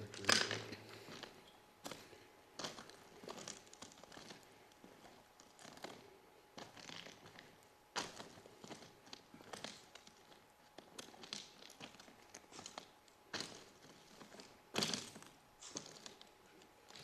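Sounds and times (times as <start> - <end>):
footsteps crunching on ballast: 0.0 - 17.0.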